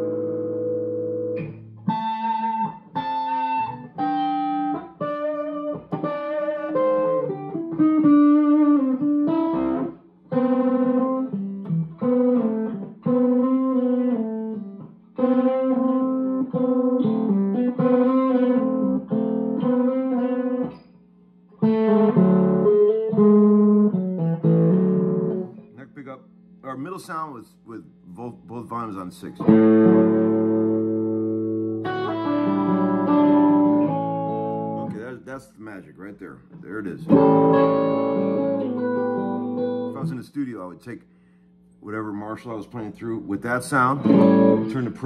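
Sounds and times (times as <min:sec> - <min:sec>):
electric guitar chords and melodies: 0:00.0 - 0:26.4, 0:29.4 - 0:35.2, 0:36.5 - 0:40.2, 0:43.5 - 0:45.0.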